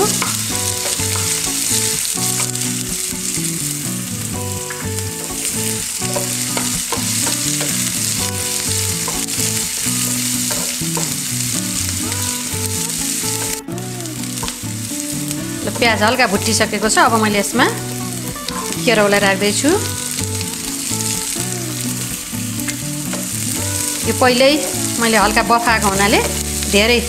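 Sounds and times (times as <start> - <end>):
soft held musical notes: 0.0 - 27.0
vegetables sizzling in hot oil: 0.0 - 27.0.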